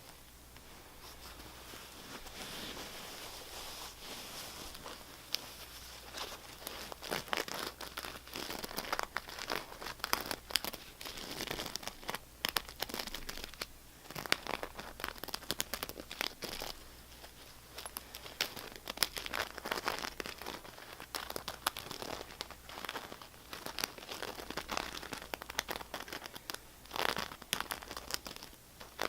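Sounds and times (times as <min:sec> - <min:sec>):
crinkly material crackling: 0:00.0 - 0:29.0.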